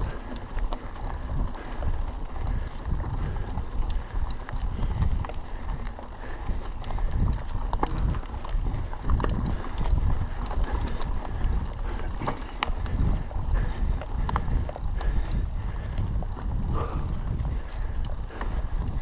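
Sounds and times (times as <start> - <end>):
bike clicks and rattles: 0.0 - 19.0
bike tyres rolling on dirt: 0.0 - 19.0
wind rumbling on microphone: 0.0 - 19.0.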